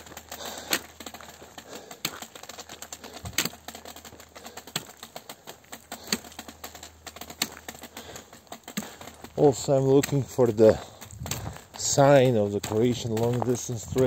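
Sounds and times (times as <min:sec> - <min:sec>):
footsteps on gravel: 0:00.0 - 0:14.0.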